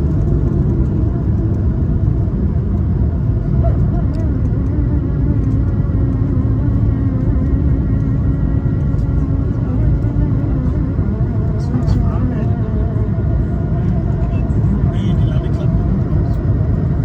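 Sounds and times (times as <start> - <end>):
airplane engine roar: 0.0 - 17.0
faint hum tones: 0.0 - 17.0.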